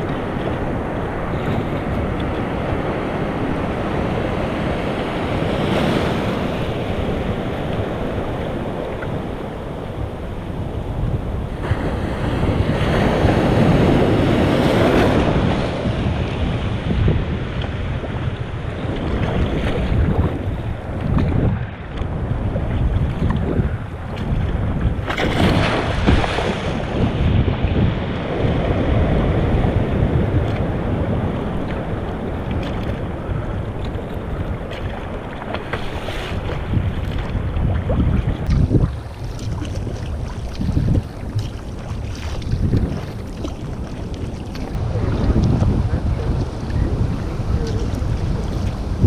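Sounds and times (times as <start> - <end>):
water splashing around kayak: 0.0 - 49.0
wind rumbling on microphone: 0.0 - 49.0.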